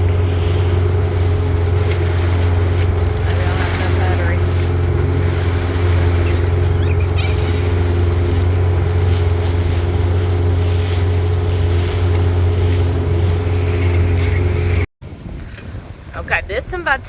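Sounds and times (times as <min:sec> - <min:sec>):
boat motor humming: 0:00.0 - 0:17.0
wind on microphone: 0:00.0 - 0:17.0.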